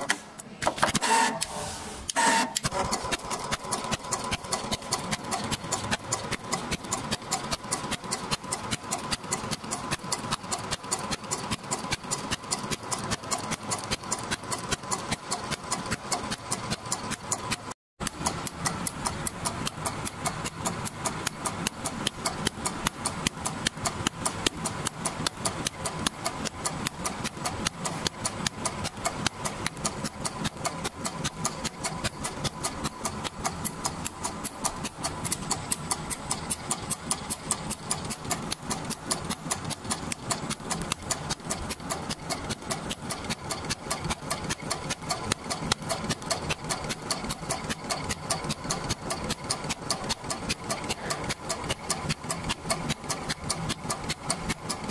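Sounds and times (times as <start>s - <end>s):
sewing machine motor hum: 1.0s - 54.9s
sewing machine needle ticking: 2.1s - 54.9s.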